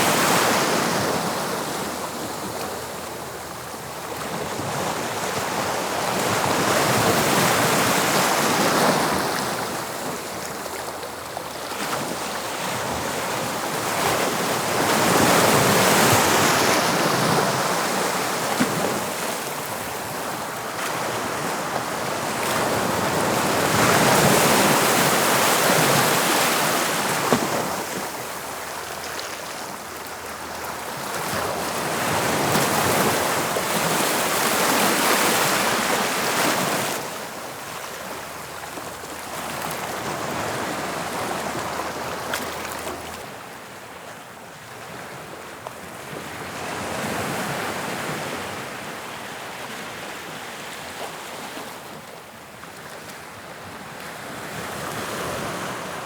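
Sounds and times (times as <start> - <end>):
sea waves breaking on shore: 0.0 - 56.0
wind: 0.0 - 56.0.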